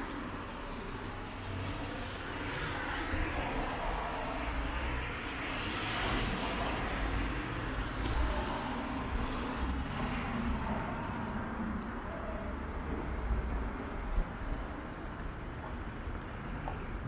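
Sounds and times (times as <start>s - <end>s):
cars passing with low rumble: 0.0s - 17.0s.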